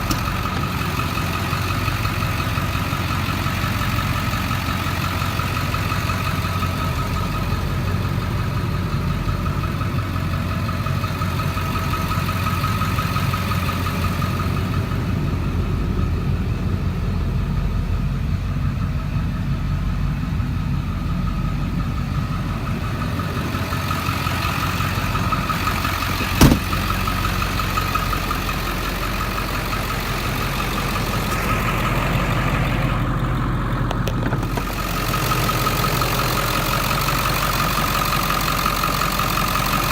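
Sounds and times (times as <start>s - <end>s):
engine whine: 0.0s - 38.8s
diesel engine idling: 0.0s - 39.9s.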